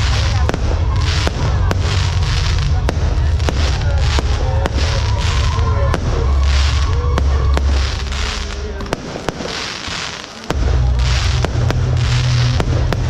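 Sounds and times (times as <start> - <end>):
loud show music with heavy bass: 0.0 - 8.6, 10.5 - 13.0
fireworks popping and crackling: 0.0 - 13.0.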